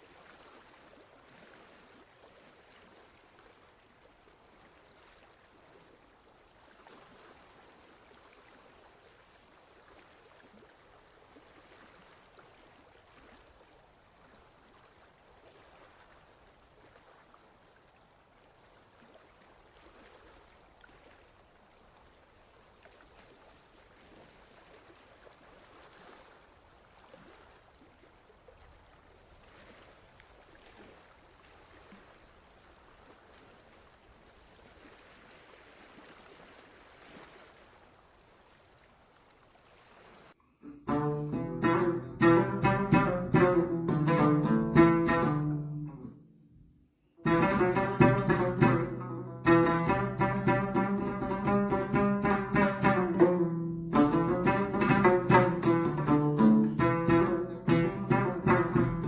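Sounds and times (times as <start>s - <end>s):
faint stream running: 0.0s - 59.0s.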